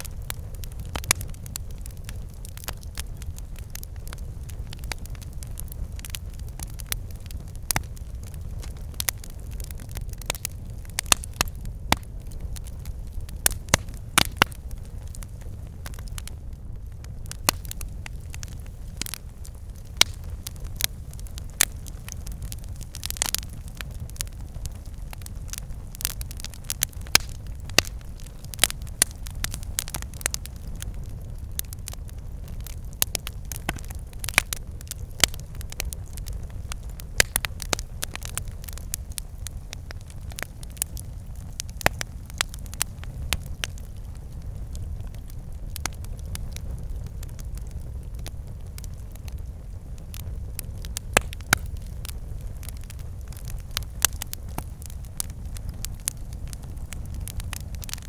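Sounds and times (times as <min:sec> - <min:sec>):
campfire crackling and popping: 0:00.0 - 0:58.0
low rumble of flames: 0:00.0 - 0:58.0.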